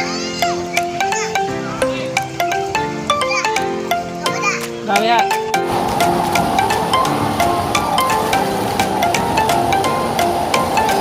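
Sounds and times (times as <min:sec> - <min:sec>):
music with ticking beat: 0:00.4 - 0:11.0.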